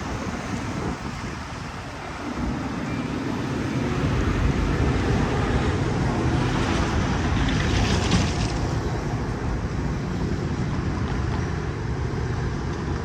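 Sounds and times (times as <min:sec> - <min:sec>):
diesel train rumbling: 0:00.0 - 0:13.0.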